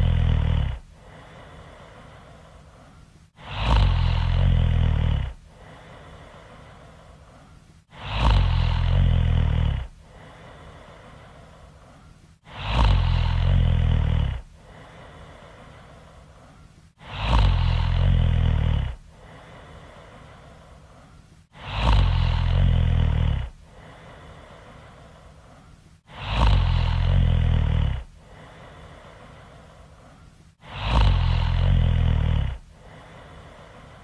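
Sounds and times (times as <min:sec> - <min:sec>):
person snoring loudly: 0:00.0 - 0:02.6, 0:03.4 - 0:07.2, 0:07.9 - 0:16.1, 0:17.0 - 0:20.6, 0:21.5 - 0:25.2, 0:26.1 - 0:29.7, 0:30.6 - 0:34.0
quiet breathing: 0:00.0 - 0:34.0.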